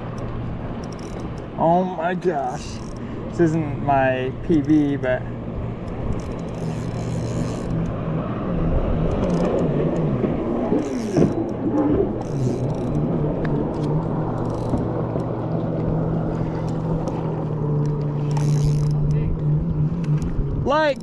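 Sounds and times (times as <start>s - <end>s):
motorboat engine humming: 0.0s - 21.0s.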